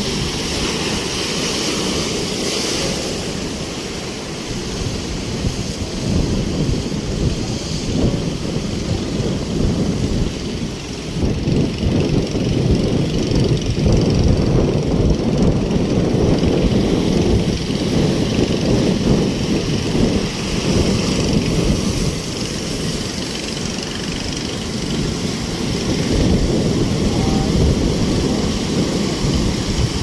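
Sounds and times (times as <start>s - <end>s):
heavy surf roaring: 0.0s - 30.0s.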